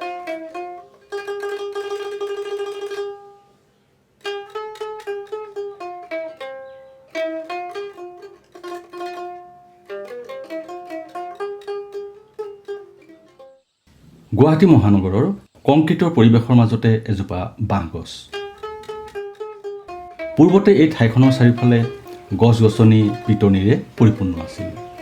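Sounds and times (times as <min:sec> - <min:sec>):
plucked lute melody: 0:00.0 - 0:15.1, 0:15.9 - 0:25.0.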